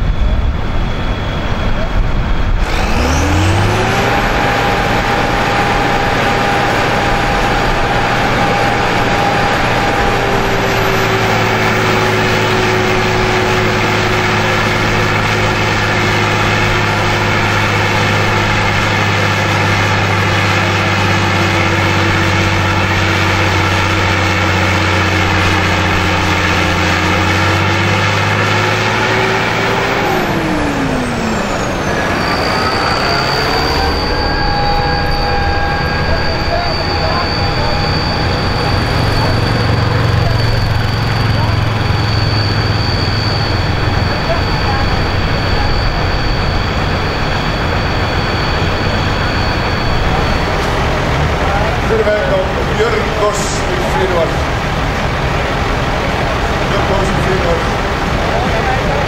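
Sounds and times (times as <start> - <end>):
thin whine: 0.0 - 59.0
tractor diesel engine revving: 0.0 - 59.0.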